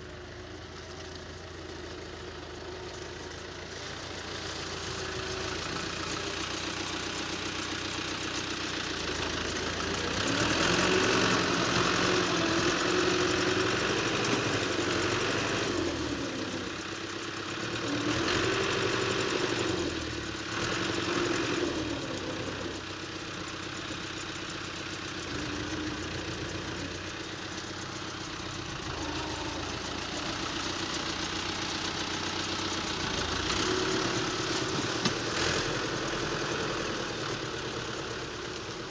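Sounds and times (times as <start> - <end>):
tractor engine revving: 1.2 - 38.9.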